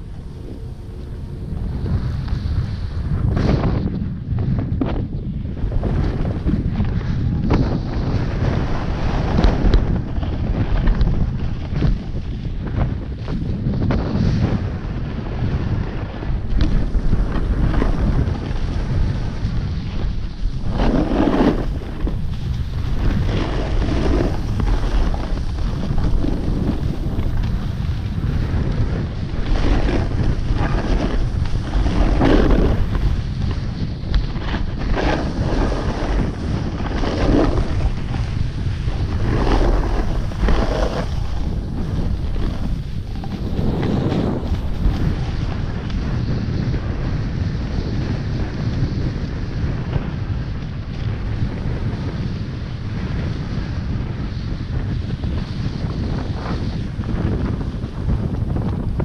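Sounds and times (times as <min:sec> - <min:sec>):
skis scraping snow: 0:00.0 - 0:59.0
wind buffeting microphone: 0:00.0 - 0:59.0.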